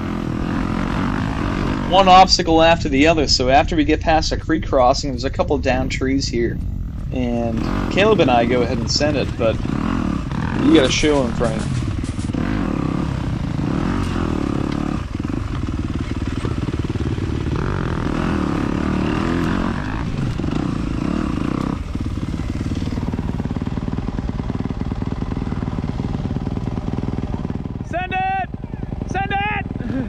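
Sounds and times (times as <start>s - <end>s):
dirt bike engine revving: 0.0s - 4.2s, 4.8s - 30.0s.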